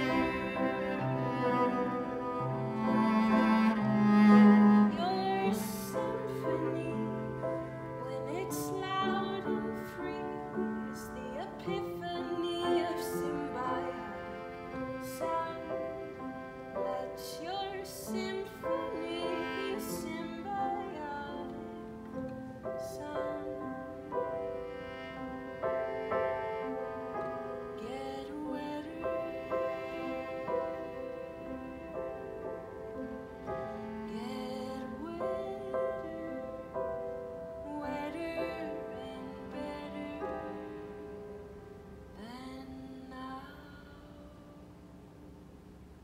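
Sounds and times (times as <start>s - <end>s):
bowed cello melody: 0.0s - 43.9s
piano chords: 0.0s - 46.0s.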